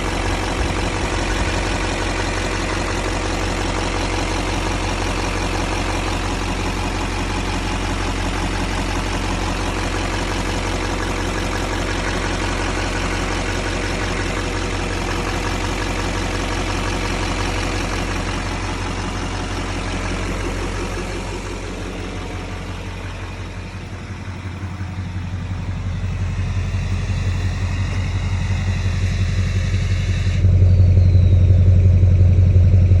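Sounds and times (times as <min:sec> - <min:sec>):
diesel engine clatter: 0:00.0 - 0:33.0.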